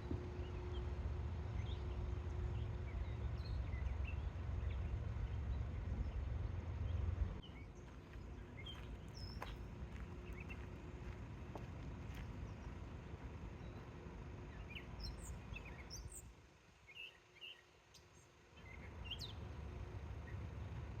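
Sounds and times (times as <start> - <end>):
birds chirping: 1.5 - 19.5.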